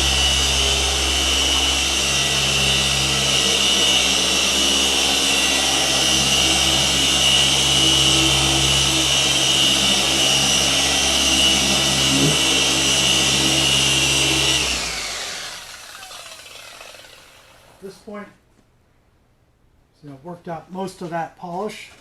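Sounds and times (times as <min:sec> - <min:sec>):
polisher humming with high whine: 0:00.0 - 0:17.8.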